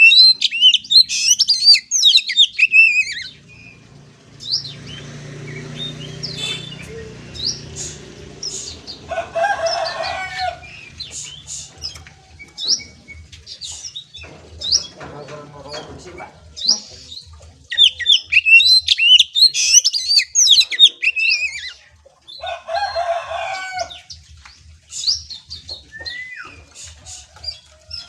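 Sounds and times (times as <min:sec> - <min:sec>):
bird warbling and chirping: 0:00.0 - 0:28.0.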